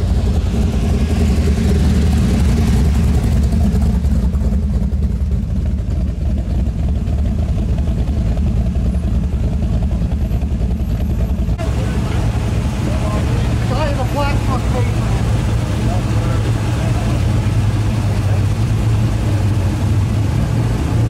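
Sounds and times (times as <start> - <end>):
truck engines rumbling past: 0.0 - 21.0.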